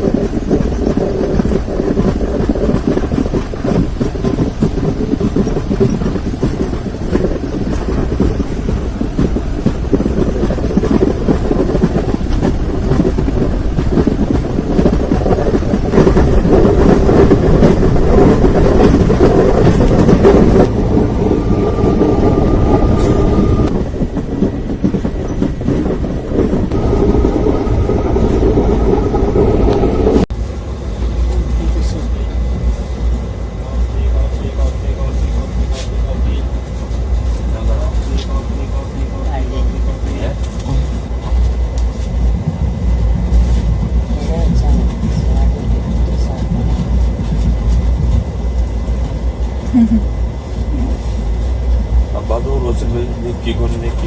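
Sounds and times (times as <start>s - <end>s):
train wheels clattering on track: 0.0s - 54.0s.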